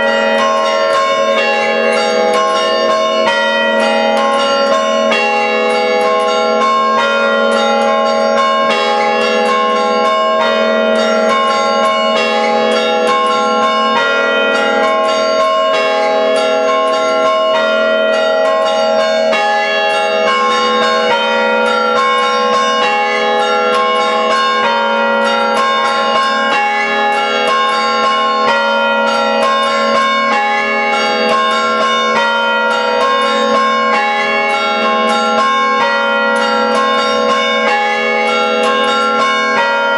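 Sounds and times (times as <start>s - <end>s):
church bells chiming: 0.0s - 39.9s.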